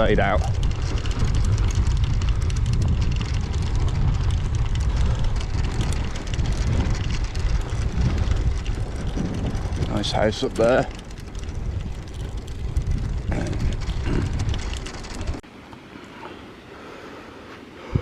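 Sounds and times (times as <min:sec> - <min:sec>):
wind buffeting microphone: 0:00.0 - 0:15.5, 0:17.7 - 0:18.0.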